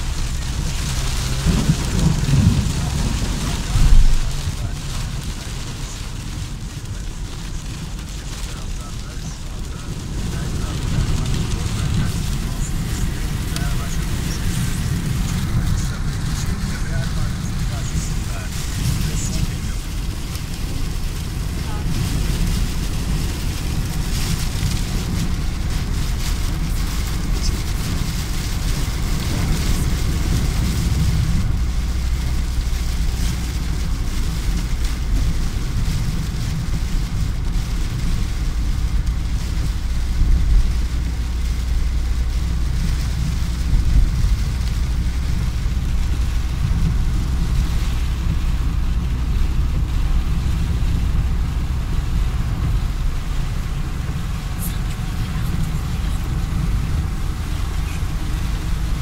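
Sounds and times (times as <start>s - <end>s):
car interior rumble: 0.0s - 59.0s
rain hitting windscreen: 0.0s - 59.0s
wet tyre noise: 0.0s - 59.0s.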